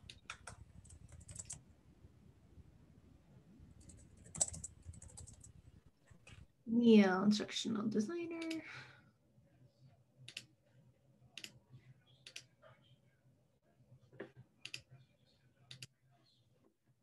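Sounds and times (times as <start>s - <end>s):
faint low hum: 0.0s - 16.7s.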